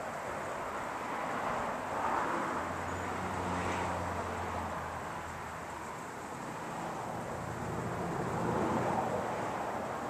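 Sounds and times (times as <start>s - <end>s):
back yard background noise: 0.0s - 10.0s
distant engine hum: 0.0s - 10.0s.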